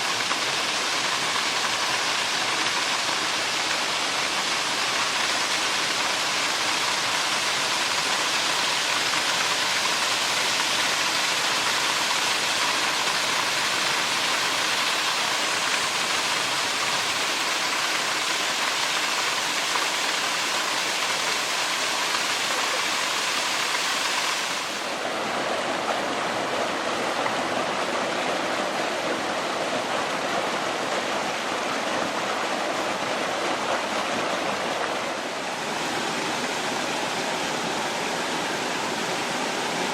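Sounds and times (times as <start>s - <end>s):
stream rushing and splashing: 0.0s - 39.9s.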